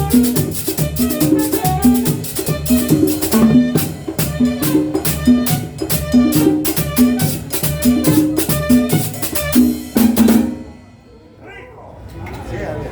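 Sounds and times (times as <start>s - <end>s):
dance music with drum beat: 0.0s - 10.6s.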